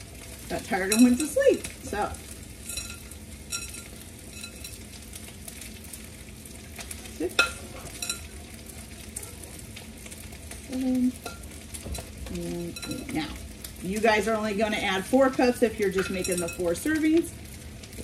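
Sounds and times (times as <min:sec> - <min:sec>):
wok sizzling: 0:00.0 - 0:18.0.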